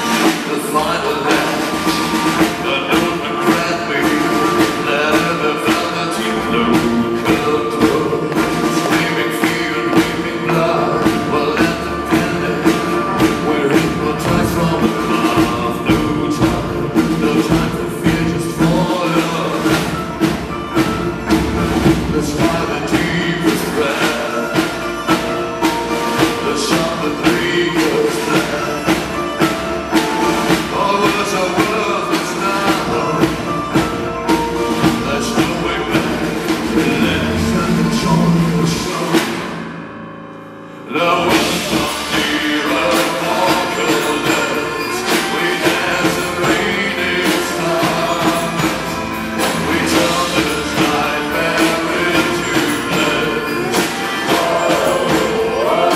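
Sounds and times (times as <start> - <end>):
man singing: 0.0 - 39.7, 40.7 - 55.9
drums steady beat: 0.0 - 40.0, 41.2 - 55.9
live rock band with orchestra: 0.0 - 55.9.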